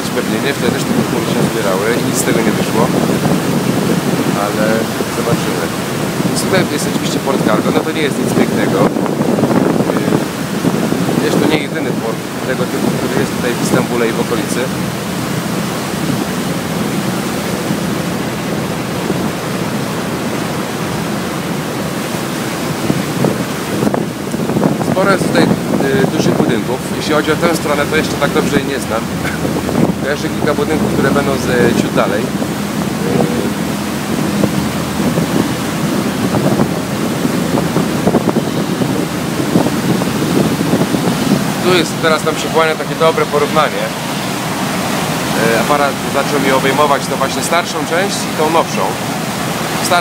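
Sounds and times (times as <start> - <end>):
water rushing along ship hull: 0.0 - 50.0
wind on microphone: 0.0 - 50.0.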